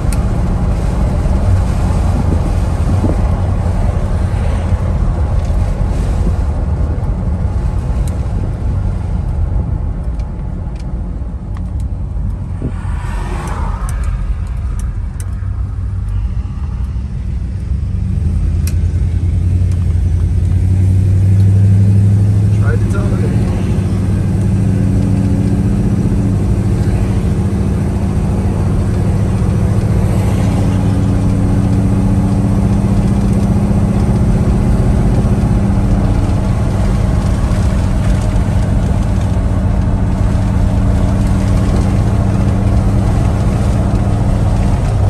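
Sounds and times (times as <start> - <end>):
car engine running: 0.0 - 45.0
tyre and road noise: 0.0 - 45.0.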